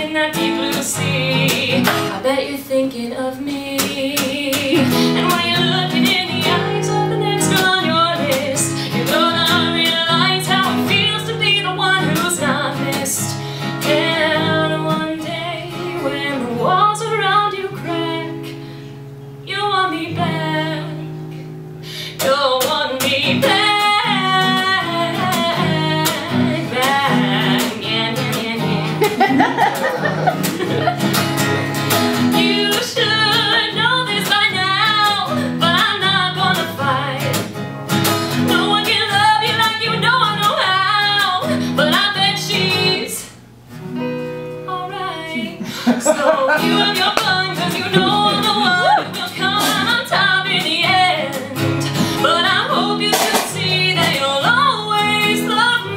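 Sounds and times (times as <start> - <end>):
strummed acoustic guitar: 0.0 - 2.7, 3.7 - 55.9
woman singing: 0.0 - 18.6, 19.4 - 21.2, 22.0 - 30.9, 32.1 - 37.5, 38.3 - 43.4, 44.6 - 55.9.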